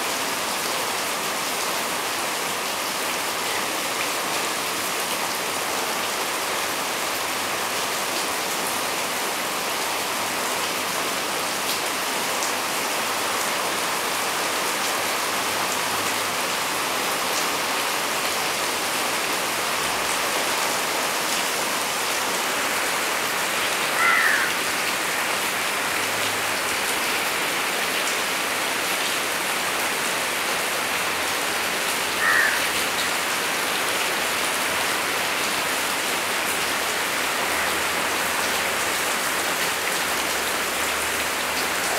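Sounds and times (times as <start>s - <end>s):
rain pouring on foliage: 0.0s - 41.9s.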